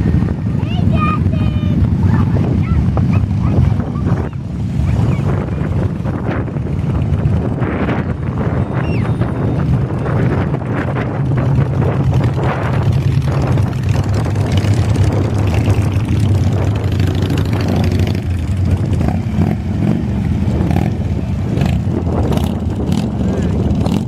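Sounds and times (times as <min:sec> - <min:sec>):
motorcycles rumbling at low speed: 0:00.0 - 0:24.0.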